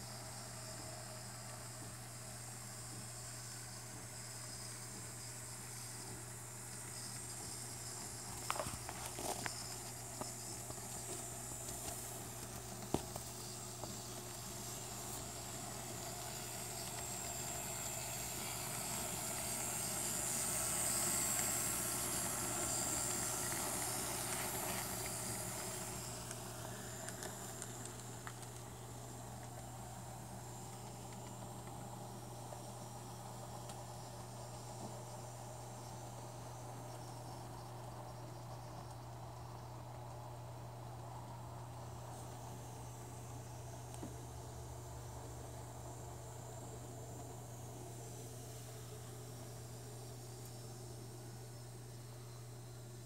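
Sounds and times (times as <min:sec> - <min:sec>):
model train running on track: 0:00.0 - 0:40.7, 0:41.9 - 0:44.2, 0:44.8 - 0:53.0.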